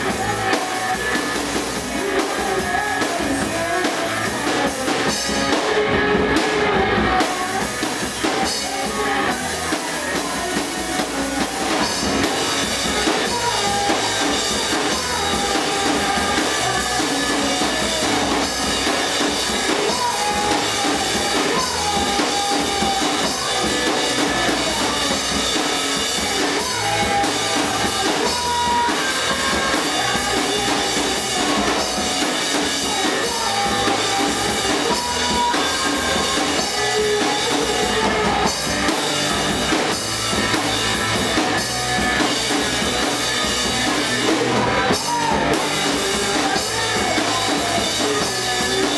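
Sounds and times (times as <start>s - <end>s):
drum kit: 0.0s - 48.9s
electric guitar: 0.0s - 48.9s.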